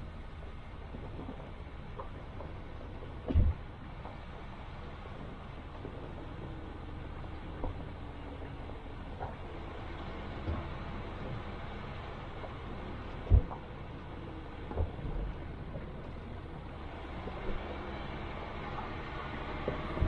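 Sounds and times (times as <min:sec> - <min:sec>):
vehicle engine and tyres rumbling: 0:00.0 - 0:20.0.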